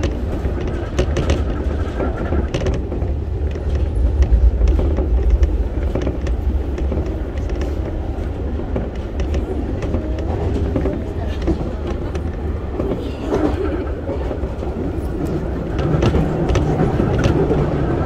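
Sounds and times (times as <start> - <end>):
train running low rumble: 0.0 - 18.0
wheels clicking on track: 0.0 - 18.0.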